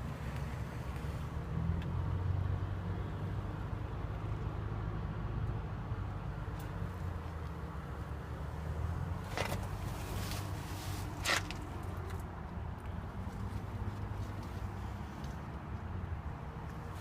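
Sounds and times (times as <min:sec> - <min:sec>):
heavy vehicle engine rumble: 0:00.0 - 0:17.0.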